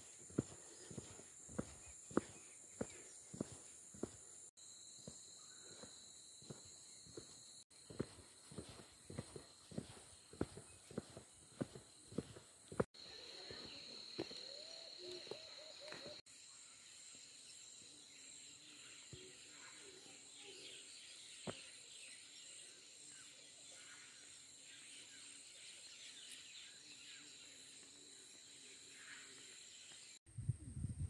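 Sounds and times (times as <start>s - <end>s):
insect chirps: 0.0s - 30.9s.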